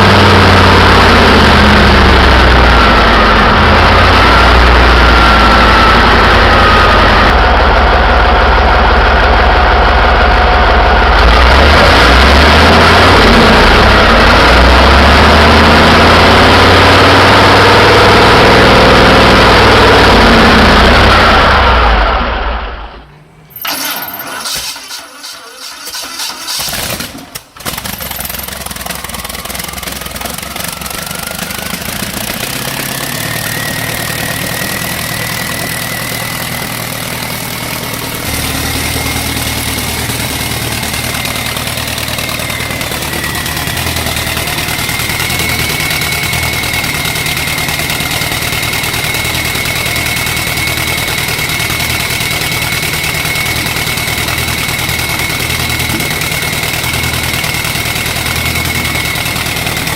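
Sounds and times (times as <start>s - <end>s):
engine deep rumble: 0.0s - 59.9s
engine high whine: 0.0s - 59.9s.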